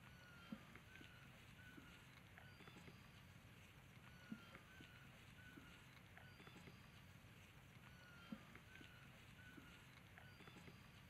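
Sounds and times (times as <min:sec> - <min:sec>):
soft short chirps: 0:00.0 - 0:11.0.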